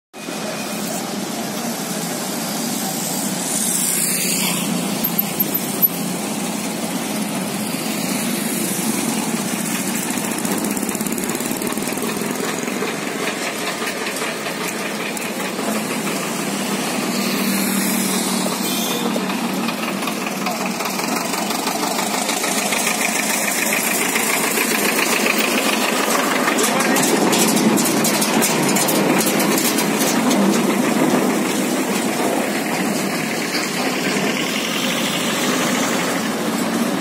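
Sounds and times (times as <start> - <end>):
rickshaw engine idling: 0.2 - 4.0, 4.6 - 37.0.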